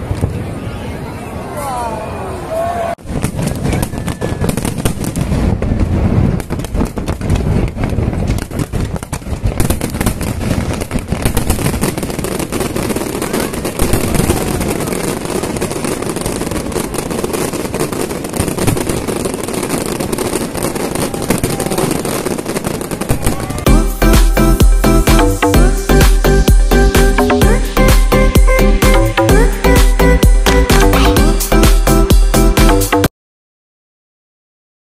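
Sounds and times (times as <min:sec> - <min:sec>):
fireworks bangs and crackling: 0:03.0 - 0:33.1.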